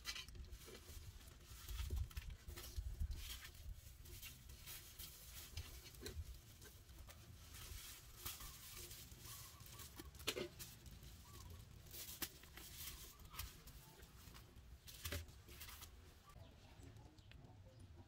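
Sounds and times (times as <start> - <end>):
bubble wrap crinkling: 0.0 - 16.4.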